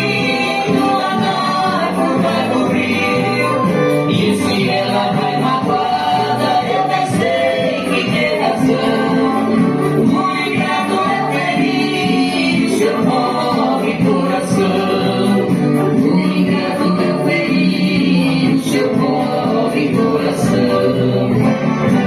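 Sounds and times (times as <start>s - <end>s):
musical accompaniment: 0.0s - 22.0s
voices singing together: 0.0s - 22.0s.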